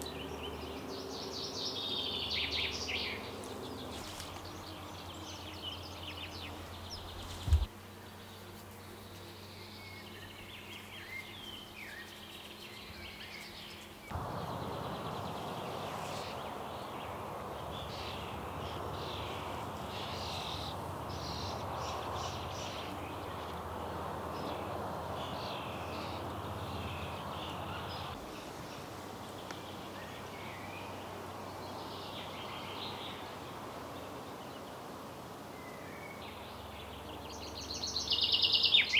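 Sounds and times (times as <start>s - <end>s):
birds chirping: 0.0s - 38.9s
steady background hiss: 0.0s - 38.9s.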